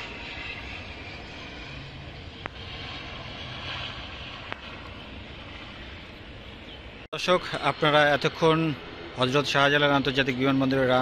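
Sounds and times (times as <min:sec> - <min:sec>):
distant airliner propeller noise: 0:00.0 - 0:11.0.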